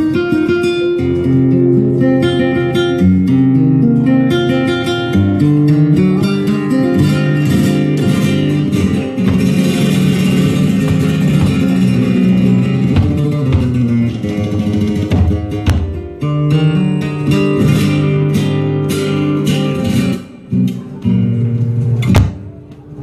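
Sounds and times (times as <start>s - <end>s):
flamenco band music: 0.0s - 23.0s
guitar: 0.0s - 23.0s.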